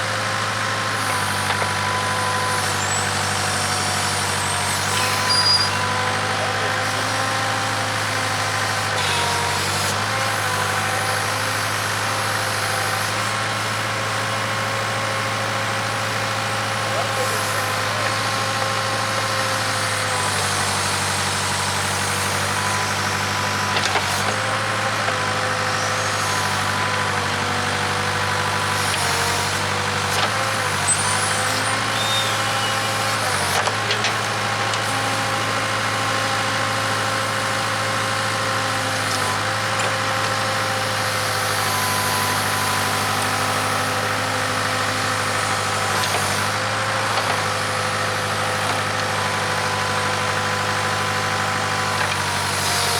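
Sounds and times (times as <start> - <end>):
backhoe diesel engine running: 0.0 - 52.9.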